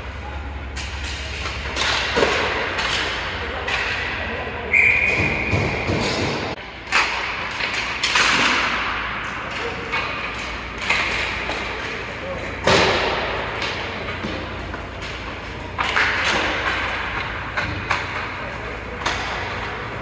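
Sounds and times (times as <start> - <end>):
puck and sticks hitting boards: 0.4 - 20.0.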